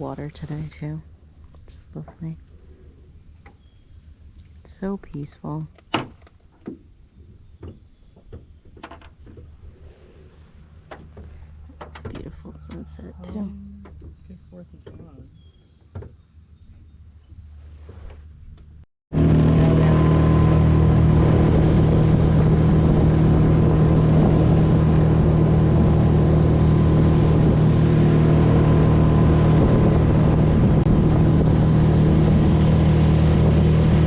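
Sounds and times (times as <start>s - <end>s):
boat motor running: 0.0s - 6.8s, 7.4s - 17.5s, 18.4s - 34.0s.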